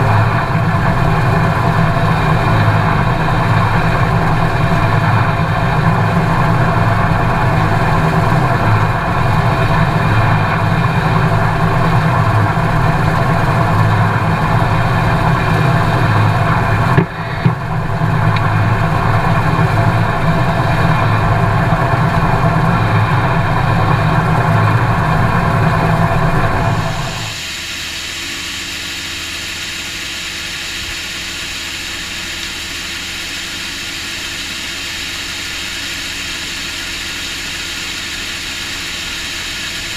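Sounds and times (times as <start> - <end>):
combine harvester rumbling: 0.0 - 39.9.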